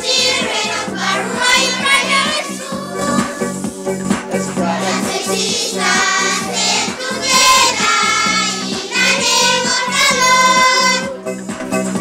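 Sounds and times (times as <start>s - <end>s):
children singing together: 0.0s - 3.7s, 4.6s - 11.1s
musical accompaniment: 0.0s - 12.0s.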